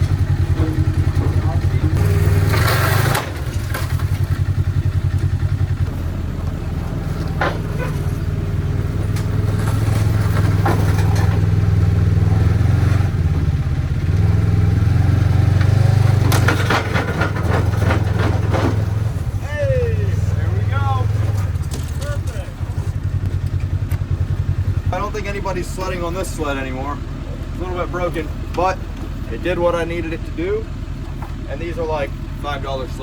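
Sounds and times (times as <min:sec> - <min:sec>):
sled scraping and clattering: 0:00.0 - 0:30.2
vehicle engine running: 0:00.0 - 0:33.0.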